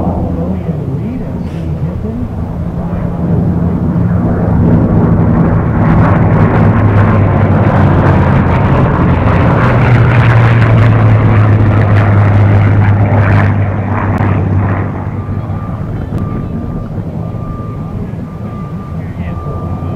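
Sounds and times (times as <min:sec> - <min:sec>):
propeller aircraft flying past: 0:00.0 - 0:19.9.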